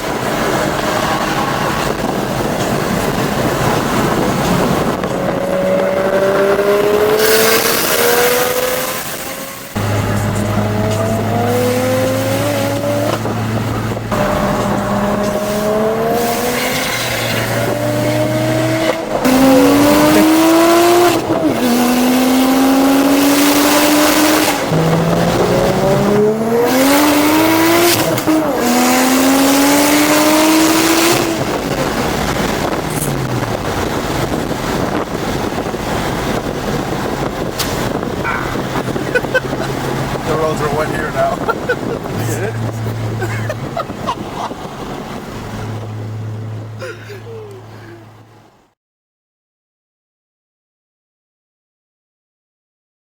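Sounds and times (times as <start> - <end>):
car engine accelerating hard: 0.0 - 48.6.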